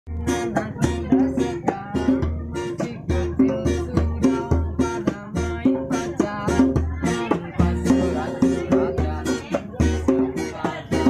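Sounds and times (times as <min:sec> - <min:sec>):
plucked string melody: 0:00.1 - 0:11.0.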